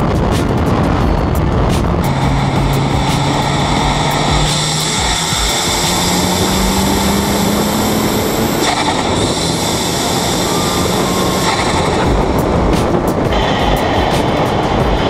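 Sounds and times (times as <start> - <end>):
car engine: 0.0 - 15.0
tyre noise: 0.0 - 15.0
wind noise: 0.0 - 15.0.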